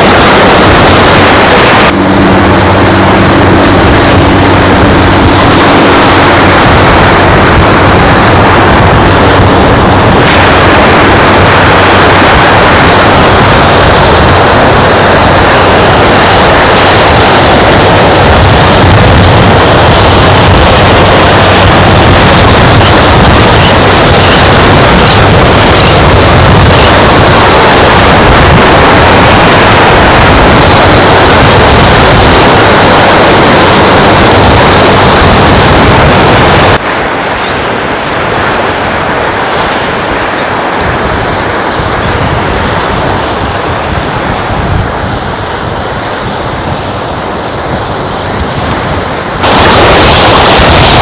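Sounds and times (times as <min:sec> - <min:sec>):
beach surf: 0:00.0 - 0:51.0
wind on the microphone: 0:00.0 - 0:51.0.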